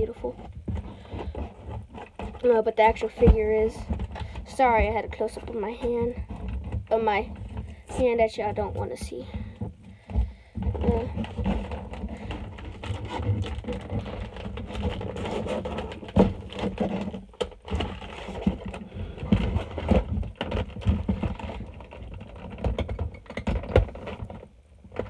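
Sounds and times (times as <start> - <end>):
cardboard and plastic rustling: 0.0 - 25.0.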